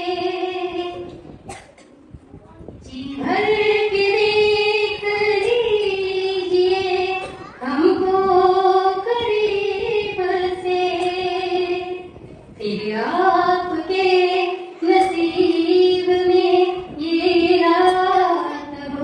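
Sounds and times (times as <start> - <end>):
young female voice singing: 2.8 - 19.0.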